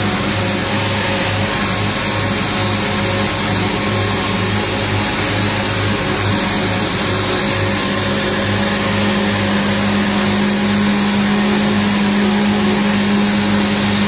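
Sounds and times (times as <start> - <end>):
harvester engine drone: 0.0 - 14.0
tractor engine running: 0.0 - 14.0.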